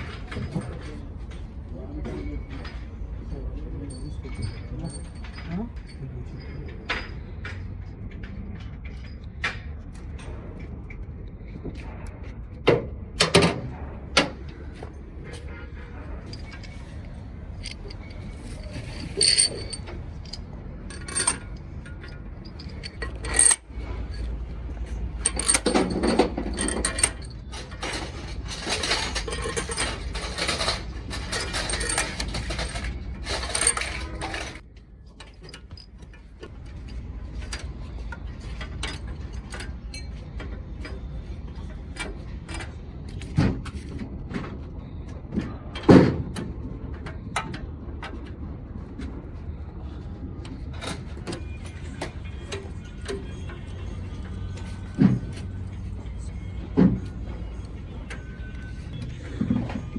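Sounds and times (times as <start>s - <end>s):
metal tools clinking: 0.0s - 9.6s, 14.2s - 44.0s, 49.8s - 59.9s
low steady hum: 10.0s - 59.9s.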